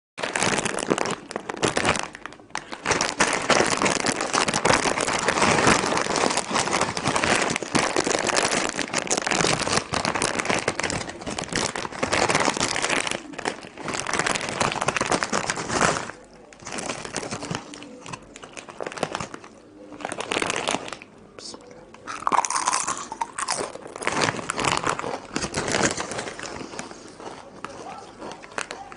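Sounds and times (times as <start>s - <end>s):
plastic bag crinkling: 0.2s - 28.9s.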